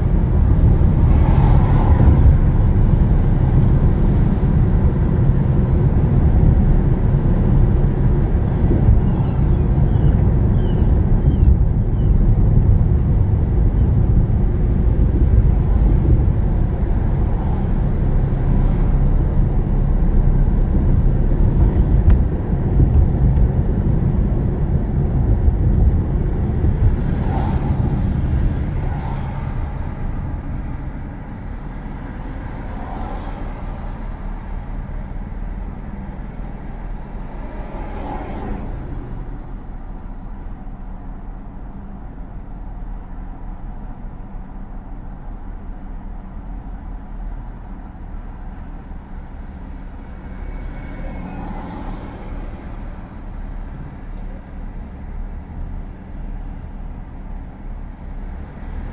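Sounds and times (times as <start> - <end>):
car road and engine noise: 0.0 - 58.9.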